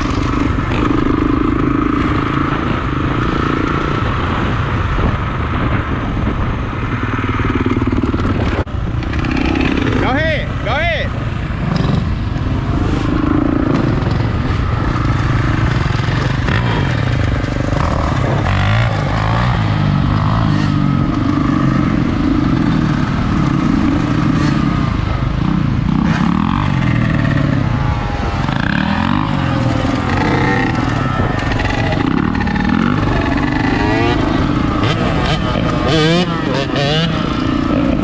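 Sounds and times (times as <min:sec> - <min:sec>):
dirt bike engine revving: 0:07.1 - 0:38.0.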